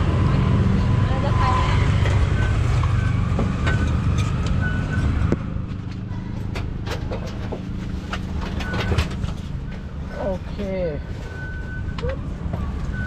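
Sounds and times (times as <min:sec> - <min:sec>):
auto rickshaw engine running: 0:00.0 - 0:13.0
road noise: 0:00.0 - 0:13.0.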